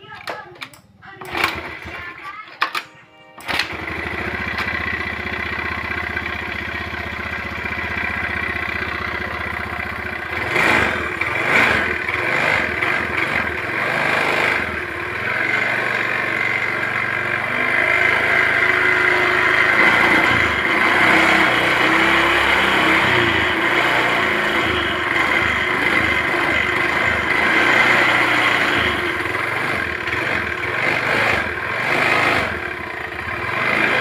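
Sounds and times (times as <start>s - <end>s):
scooter engine idling and revving: 1.2s - 2.7s, 3.4s - 34.0s.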